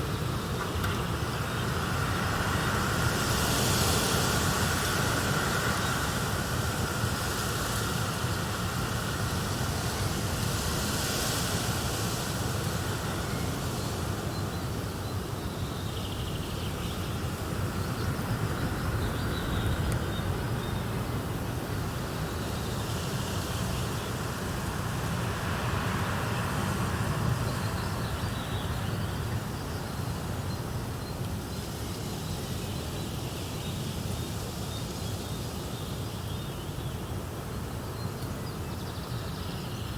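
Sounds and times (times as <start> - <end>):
steady rumbling hiss: 0.0 - 39.9.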